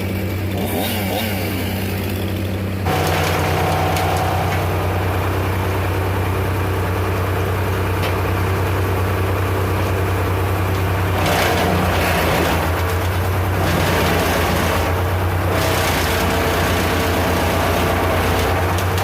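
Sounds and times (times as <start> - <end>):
engine idling and revving: 0.0 - 19.0.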